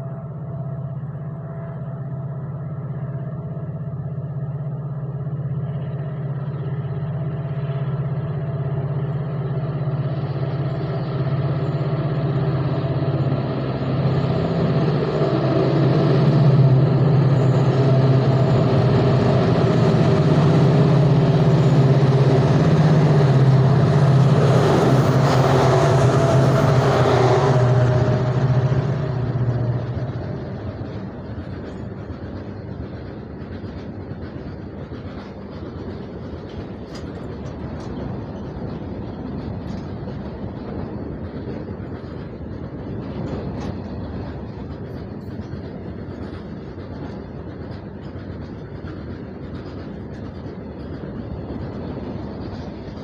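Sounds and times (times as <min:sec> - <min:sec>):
diesel locomotive engines droning: 0:00.0 - 0:53.0
freight wagons rolling past: 0:08.8 - 0:53.0.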